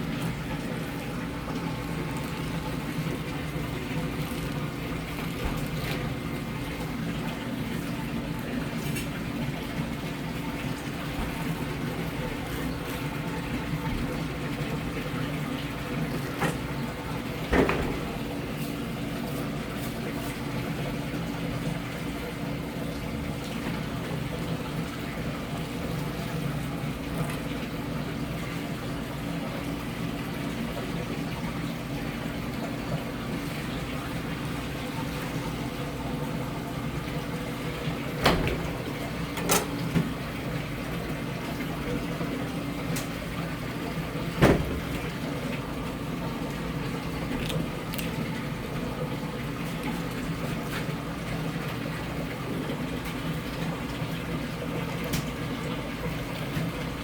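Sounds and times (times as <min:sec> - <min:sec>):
low machine hum: 0:00.0 - 0:57.0
running water: 0:00.0 - 0:57.0.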